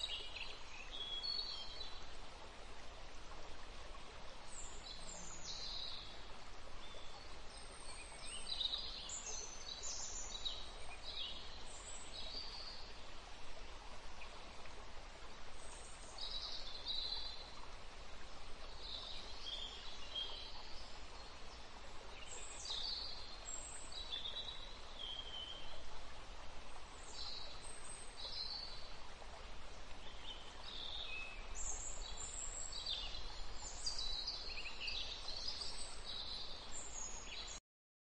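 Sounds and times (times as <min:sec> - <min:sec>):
background hiss: 0:00.0 - 0:37.6.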